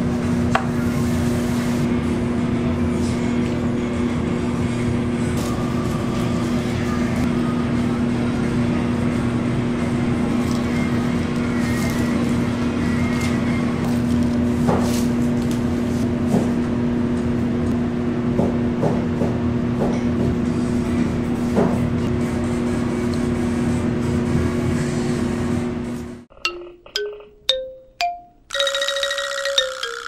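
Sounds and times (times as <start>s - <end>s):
mechanical hum and drone: 0.0s - 27.5s.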